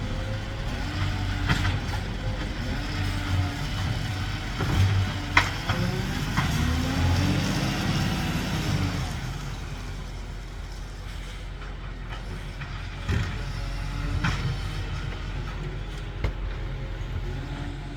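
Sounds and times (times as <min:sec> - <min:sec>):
garbage truck engine rumbling: 0:00.0 - 0:17.9.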